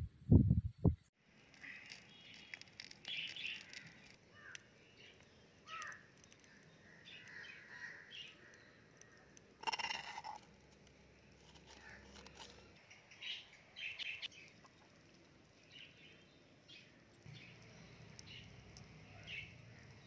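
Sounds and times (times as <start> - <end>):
faint birdsong: 1.3 - 10.4, 11.0 - 20.0.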